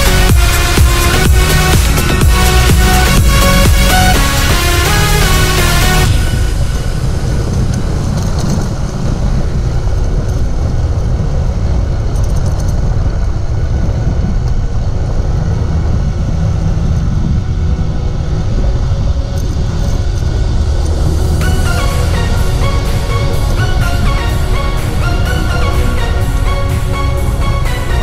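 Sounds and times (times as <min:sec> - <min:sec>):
motorcycle engine rumble: 0:00.0 - 0:28.0
road noise: 0:00.0 - 0:28.0
wind on microphone: 0:00.0 - 0:28.0.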